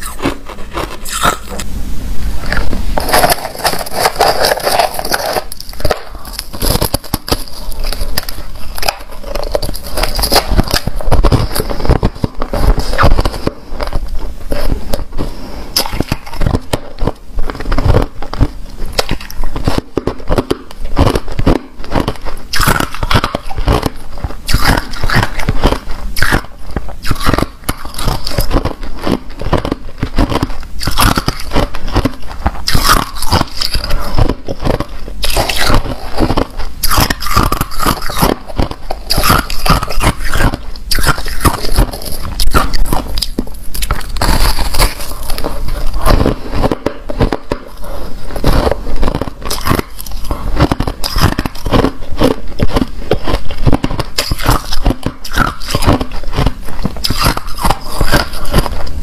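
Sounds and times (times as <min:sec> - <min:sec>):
chewing crunchy ice: 0:00.0 - 0:01.7, 0:02.4 - 0:59.0.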